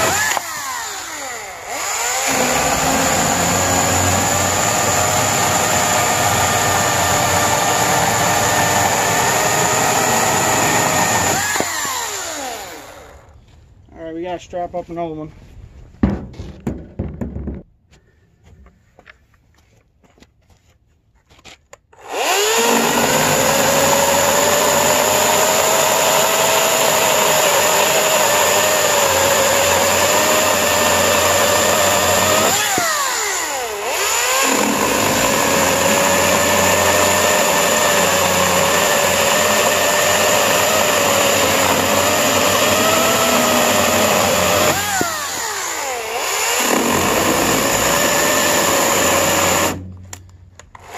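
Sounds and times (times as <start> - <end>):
chainsaw cutting wood: 0.0 - 13.4, 21.9 - 50.9.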